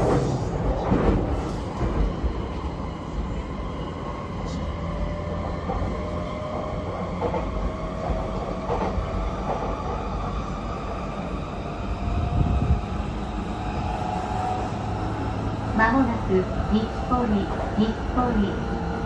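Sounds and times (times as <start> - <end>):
train running gear rumble: 0.0 - 19.0.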